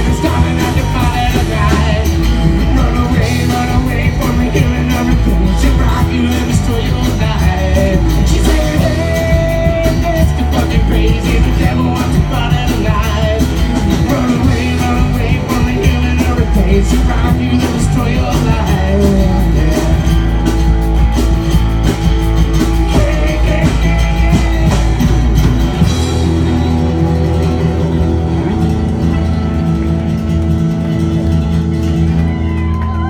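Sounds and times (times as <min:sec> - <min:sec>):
bass guitar: 0:00.0 - 0:33.0
drum kit: 0:00.0 - 0:33.0
electric guitar: 0:00.0 - 0:33.0.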